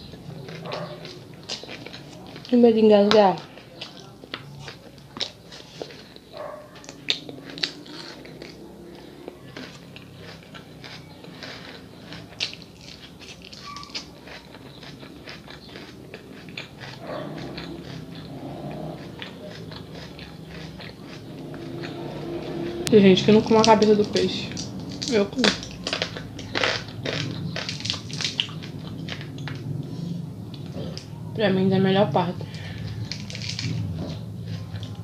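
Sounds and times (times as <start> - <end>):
person chewing and mouth clicks: 0.0 - 31.2, 32.4 - 35.0.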